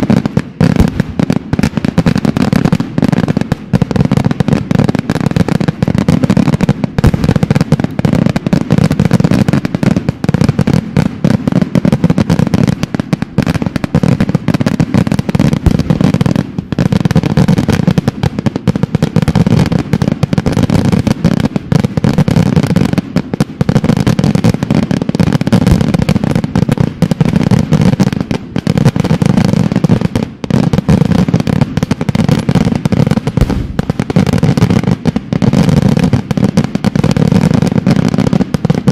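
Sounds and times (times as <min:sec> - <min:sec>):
firework bangs: 0:00.0 - 0:38.9.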